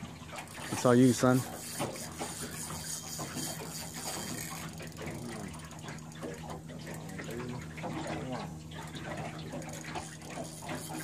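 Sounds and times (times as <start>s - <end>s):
steady low hum: 0.0s - 11.0s
fishing reel whirring and clicking: 0.4s - 11.0s.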